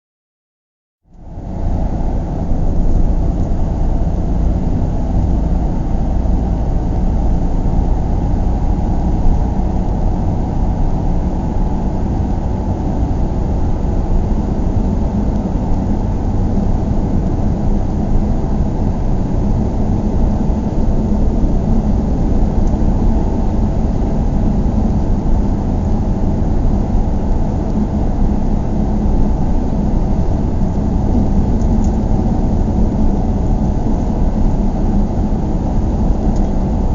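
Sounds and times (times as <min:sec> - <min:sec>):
car cabin road rumble: 0:01.0 - 0:36.9
faint wind: 0:01.0 - 0:36.9.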